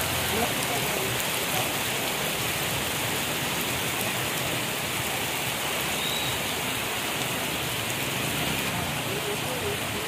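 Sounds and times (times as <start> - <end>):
heavy rain on pavement: 0.0 - 10.0.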